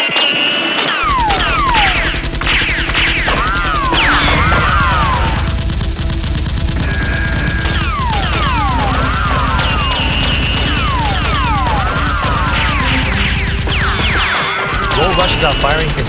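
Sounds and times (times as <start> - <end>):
automatic gunfire: 1.0 - 16.0
falling whistles of bullets: 1.0 - 16.0.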